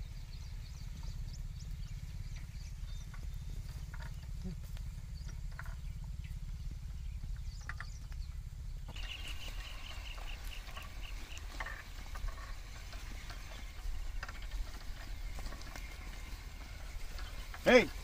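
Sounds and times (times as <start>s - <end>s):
clods crunching and hooves knocking: 0.0s - 18.0s
steady low rumble: 0.0s - 18.0s.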